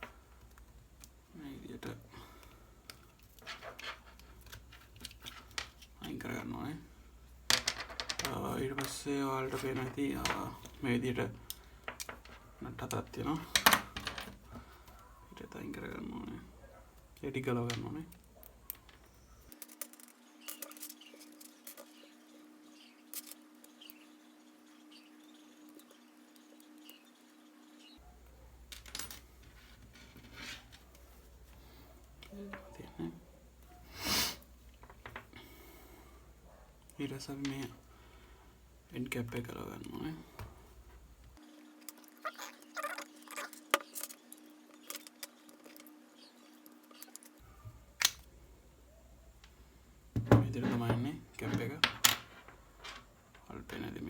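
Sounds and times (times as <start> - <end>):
faint steady hum: 0.0 - 42.2, 43.4 - 54.0.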